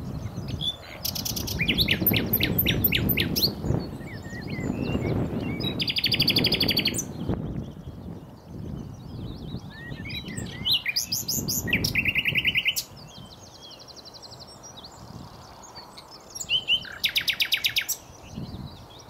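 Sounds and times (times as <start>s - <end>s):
nightingale singing: 0.0s - 19.0s.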